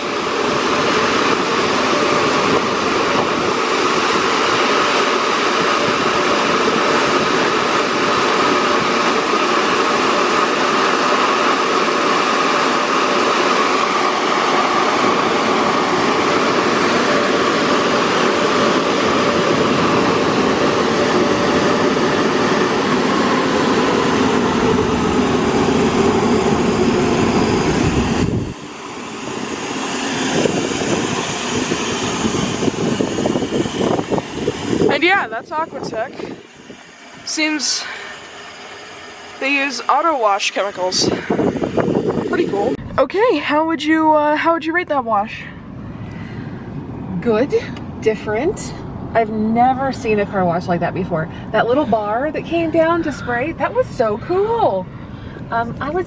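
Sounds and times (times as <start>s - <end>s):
car wash dryer blowers running: 0.0s - 56.0s.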